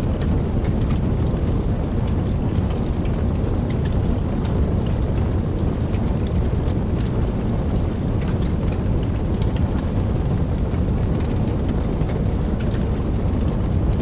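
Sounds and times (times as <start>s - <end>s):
campfire flames rumbling: 0.0s - 14.0s
fire crackling and popping: 0.0s - 14.0s.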